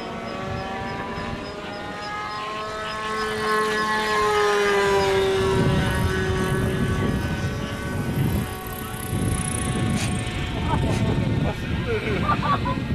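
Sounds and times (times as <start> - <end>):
low rumbling noise: 0.0 - 12.9
model airplane engine buzzing: 0.0 - 12.9.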